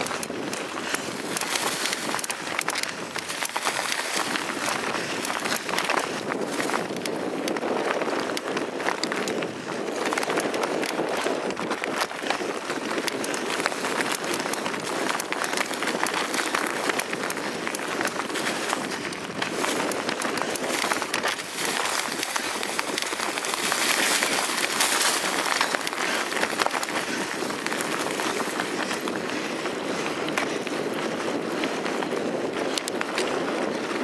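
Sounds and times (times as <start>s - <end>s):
bike rattling and knocking: 0.0s - 34.0s
bike tyres rushing on dirt: 0.0s - 34.0s.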